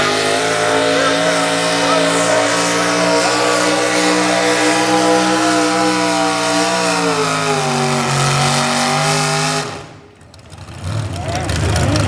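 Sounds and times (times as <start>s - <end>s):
truck engine running at high revs: 0.0s - 12.0s.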